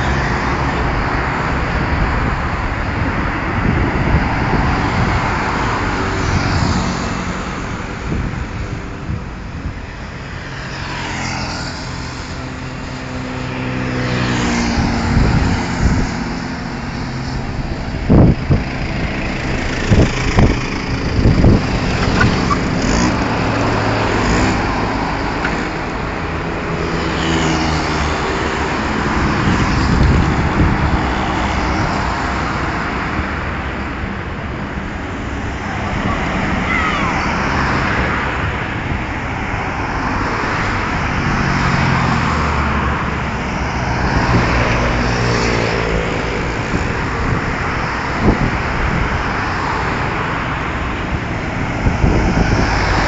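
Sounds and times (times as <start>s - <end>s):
cars passing by: 0.0s - 53.0s
highway traffic rumble: 0.0s - 53.0s.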